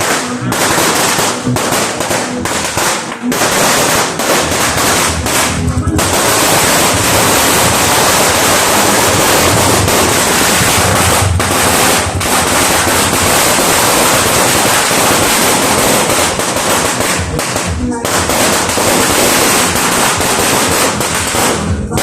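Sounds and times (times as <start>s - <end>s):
firecrackers crackling: 0.0s - 22.0s.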